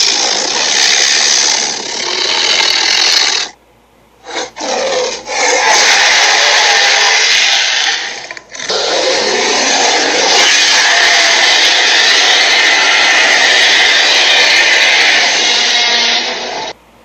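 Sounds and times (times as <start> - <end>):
cartoon dinosaur roar: 0.0 - 3.6, 4.2 - 16.8.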